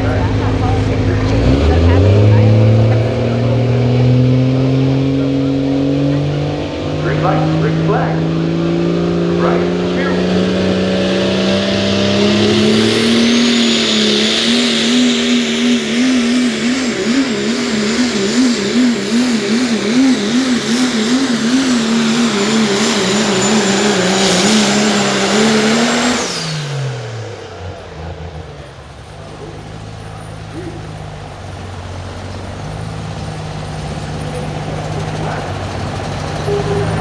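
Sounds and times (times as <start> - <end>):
diesel truck engine surging: 0.0 - 37.0
turbocharger whistle: 0.0 - 37.0.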